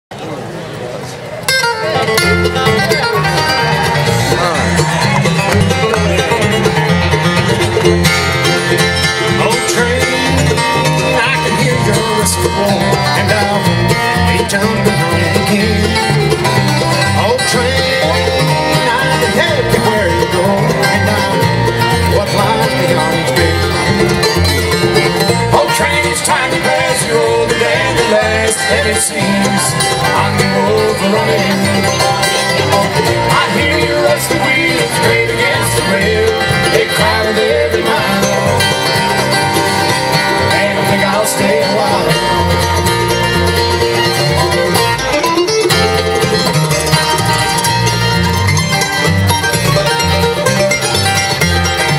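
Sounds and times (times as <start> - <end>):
dobro: 0.1 - 51.9
mandolin: 0.1 - 51.9
acoustic guitars: 0.2 - 51.9
fiddle: 0.9 - 51.9
upright bass: 1.4 - 51.9.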